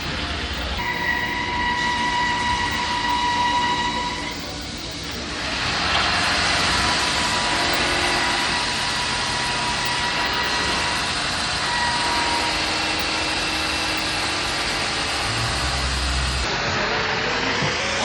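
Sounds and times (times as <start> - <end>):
wood lathe whirring: 0.0 - 18.0.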